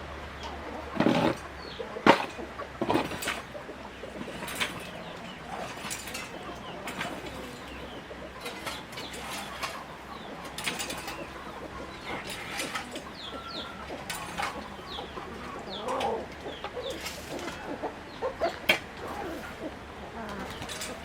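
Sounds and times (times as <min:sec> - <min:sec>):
poultry chirping and clucking: 0:00.0 - 0:21.0.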